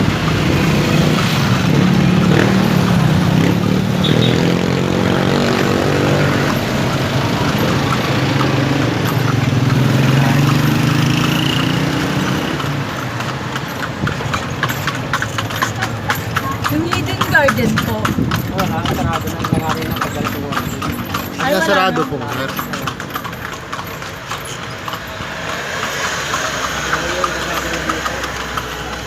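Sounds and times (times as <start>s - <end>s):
horse hooves clip-clopping: 0.0s - 29.0s
vehicle engine running: 0.0s - 29.0s.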